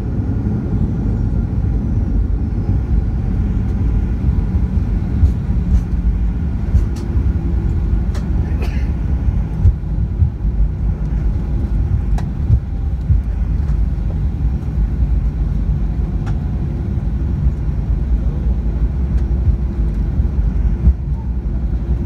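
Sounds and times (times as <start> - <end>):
airliner cabin rumble: 0.0 - 22.0
faint steady hum: 0.0 - 22.0.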